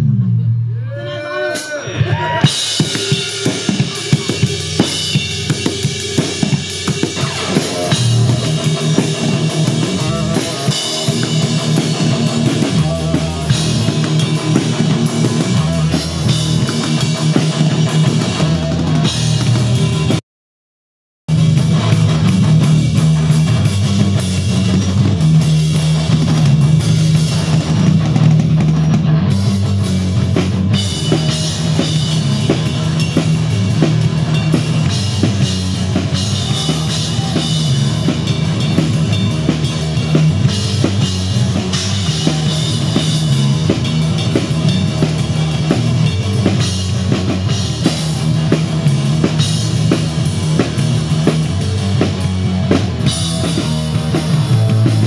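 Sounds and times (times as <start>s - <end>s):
bass line: 0.0s - 20.2s, 21.3s - 55.0s
electric guitar: 0.0s - 20.2s, 21.3s - 55.0s
busy drumming: 1.5s - 20.2s, 21.3s - 55.0s.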